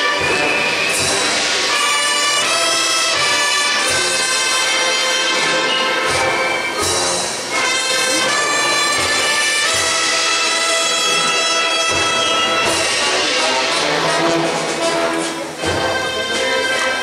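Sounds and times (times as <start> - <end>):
brass band playing slow march: 0.0 - 17.0.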